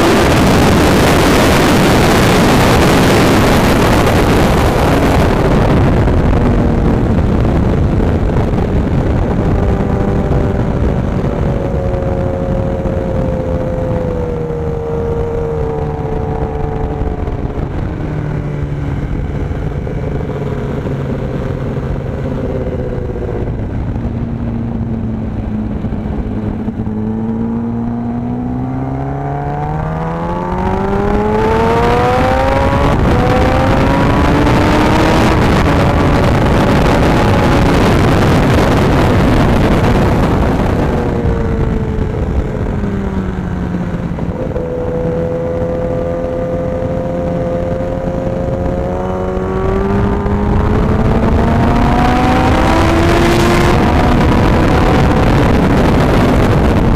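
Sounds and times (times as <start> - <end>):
motorcycle engine: 0.0 - 56.9
wind rushing: 0.0 - 56.9.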